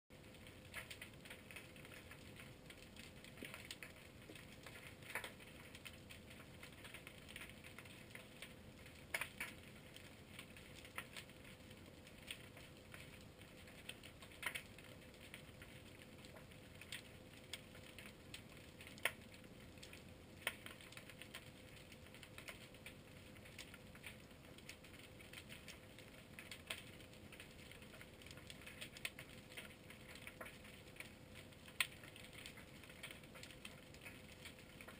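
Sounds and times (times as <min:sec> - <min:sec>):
faint steady hum: 0:00.1 - 0:34.9
underwater clicking and crackling: 0:00.1 - 0:34.9.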